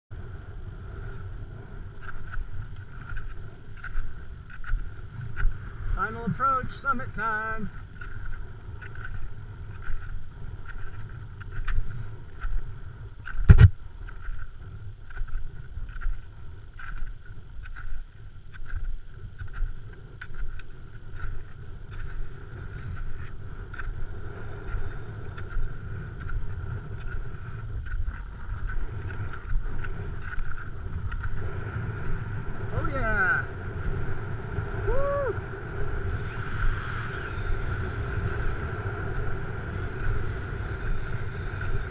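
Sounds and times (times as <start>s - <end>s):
wind buffeting microphone: 0.1s - 41.9s.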